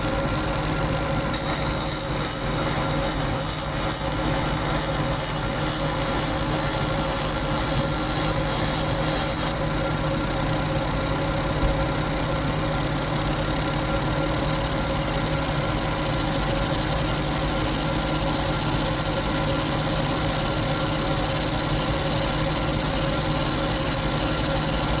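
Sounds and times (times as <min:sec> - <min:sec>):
motor humming and whining: 0:00.0 - 0:25.0.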